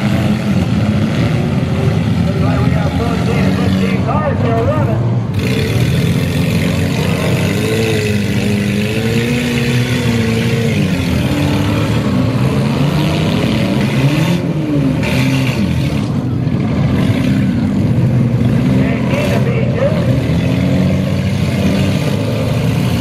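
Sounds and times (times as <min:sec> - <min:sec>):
car engines revving: 0:00.0 - 0:23.0
din of running engines: 0:00.0 - 0:23.0.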